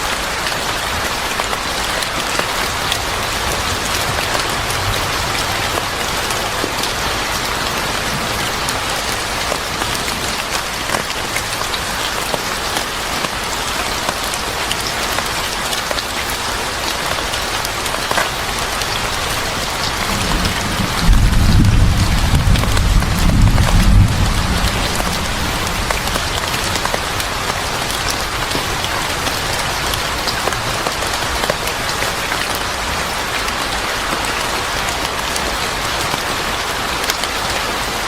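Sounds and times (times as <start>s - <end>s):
rain on a hard surface: 0.0s - 38.0s.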